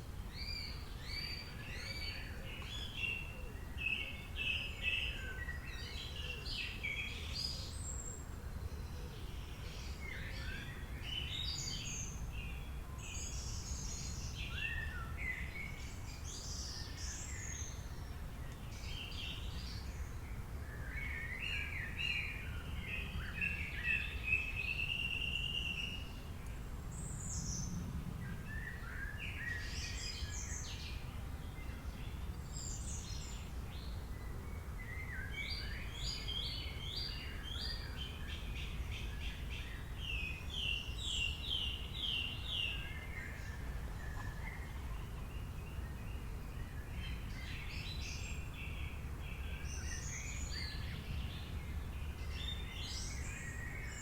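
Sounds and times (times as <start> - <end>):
wild birds chirping and singing: 0.0 - 54.0.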